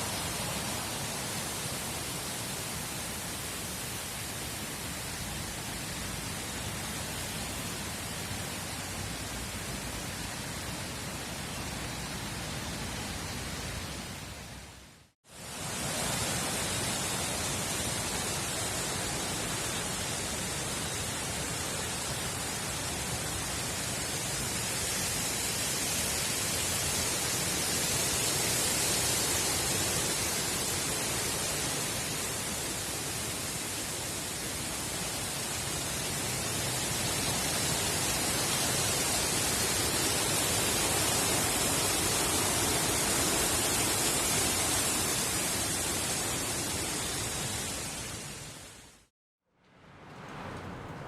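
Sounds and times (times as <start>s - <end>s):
wind rushing through trees: 0.0s - 51.0s.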